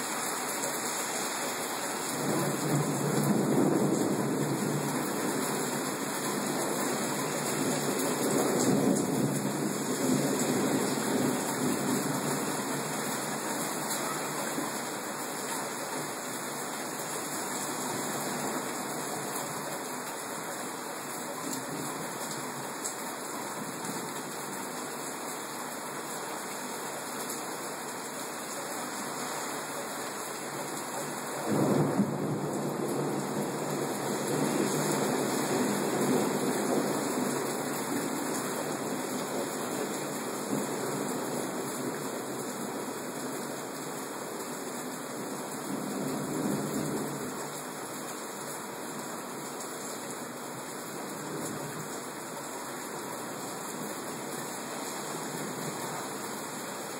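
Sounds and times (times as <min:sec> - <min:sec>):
heavy rain pouring: 0:00.0 - 0:56.9.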